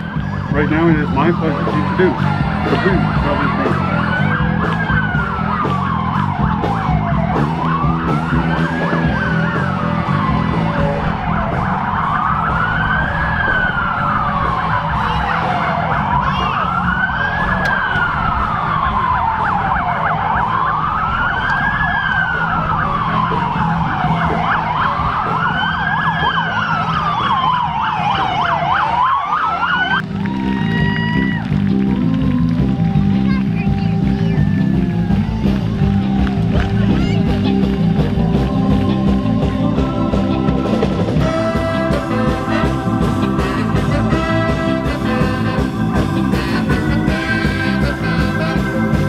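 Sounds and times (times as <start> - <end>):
police siren wailing: 0.0 - 49.0.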